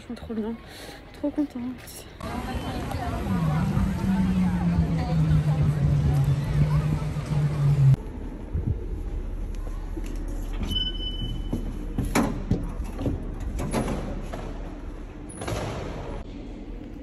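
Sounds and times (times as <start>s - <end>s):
hollow station background noise: 0.0s - 17.0s
outdoor crowd noise: 0.0s - 17.0s.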